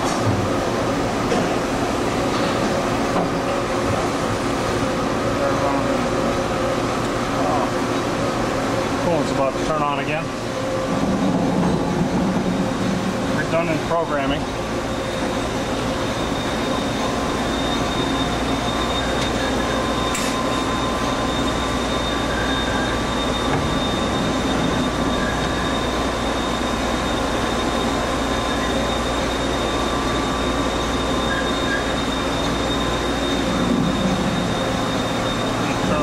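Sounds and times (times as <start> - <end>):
machine tool whirring and whining: 0.0 - 36.0.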